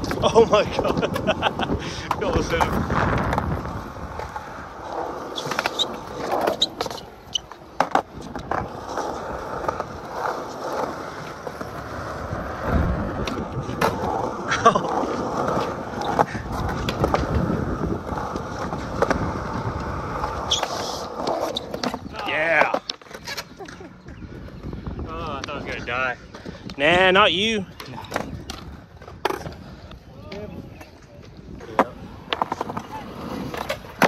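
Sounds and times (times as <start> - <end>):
skateboard wheels rolling on concrete: 0.0 - 34.0.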